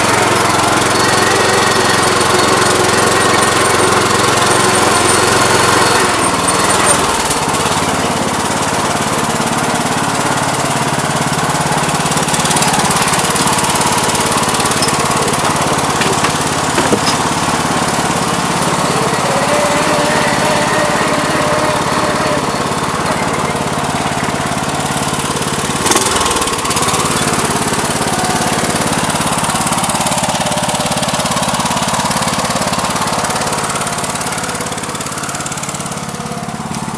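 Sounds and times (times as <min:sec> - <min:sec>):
garden tractor engine running: 0:00.0 - 0:36.9.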